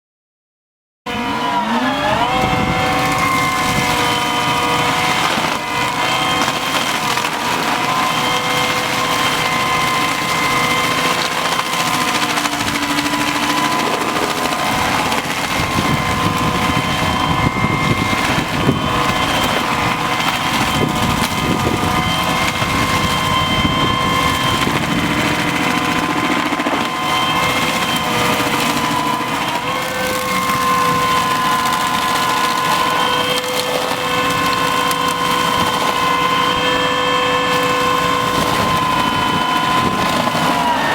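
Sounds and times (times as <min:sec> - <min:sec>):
cutter wheel grinding stump: 0:01.1 - 0:40.9
stump grinder engine running: 0:01.1 - 0:40.9.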